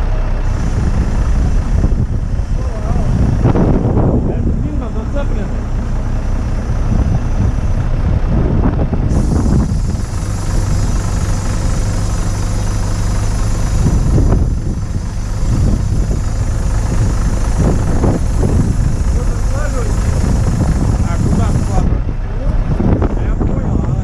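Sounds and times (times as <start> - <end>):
diesel engine running: 0.0 - 24.0
wind buffeting microphone: 0.0 - 24.0.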